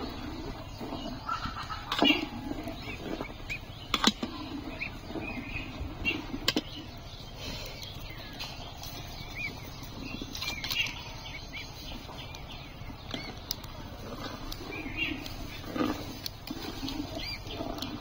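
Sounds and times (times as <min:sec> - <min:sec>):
rice and water boiling in pot: 0:00.0 - 0:18.0
small birds chirping: 0:00.0 - 0:18.0.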